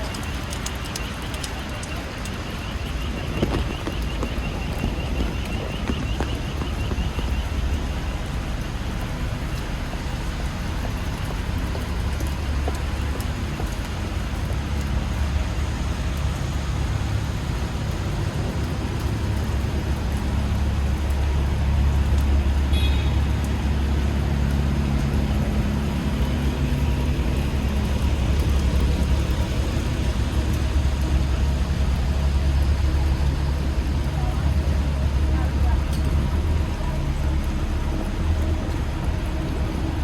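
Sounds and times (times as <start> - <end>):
city street traffic: 0.0 - 40.0.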